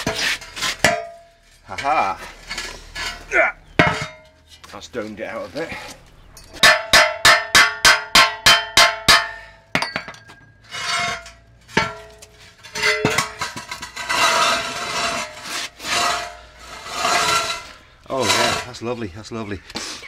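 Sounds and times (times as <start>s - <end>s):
metal rims scraping: 0.0s - 7.4s, 9.3s - 20.0s.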